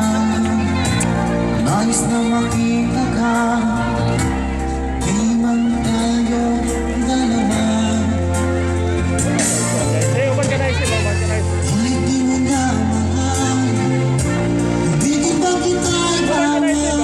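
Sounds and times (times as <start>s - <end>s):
steady bass line: 0.0s - 17.0s.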